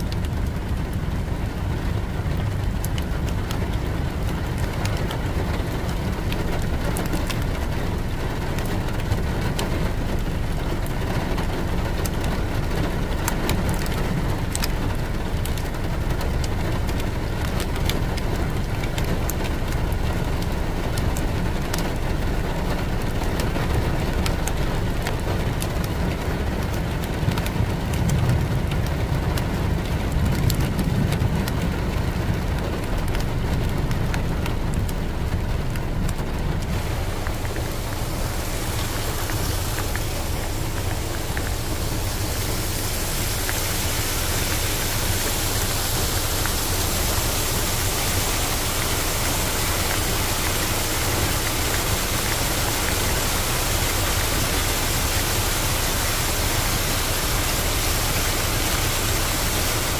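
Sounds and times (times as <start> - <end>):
low vehicle rumble: 0.0 - 59.9
rain hiss: 0.0 - 59.9.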